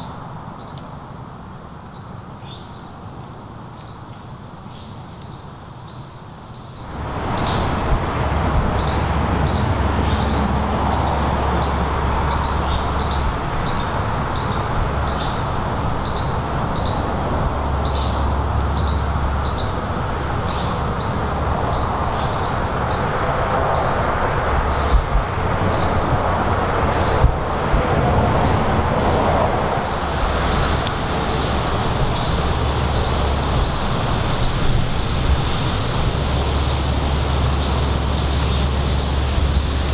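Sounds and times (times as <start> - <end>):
insects chirping: 0.0 - 39.9
loud rushing rumble: 6.8 - 39.9.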